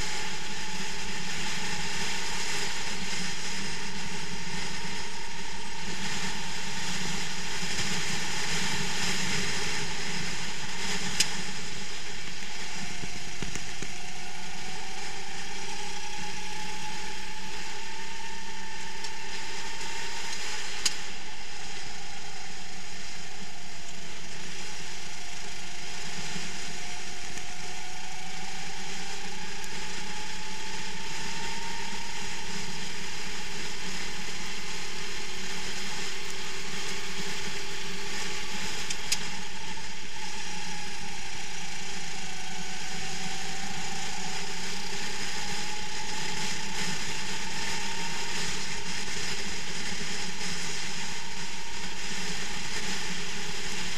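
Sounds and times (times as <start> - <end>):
racing kart engine: 0.0 - 53.9
steady rush: 0.0 - 53.9.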